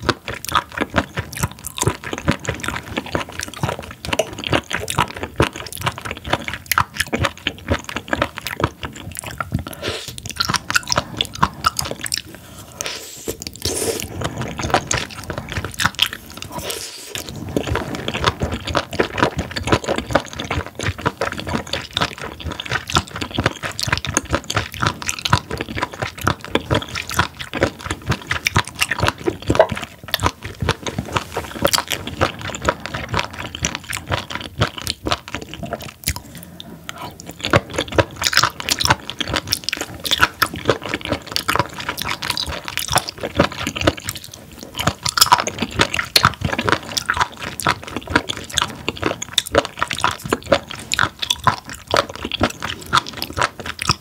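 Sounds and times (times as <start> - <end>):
crunchy wet chewing: 0.0 - 54.0.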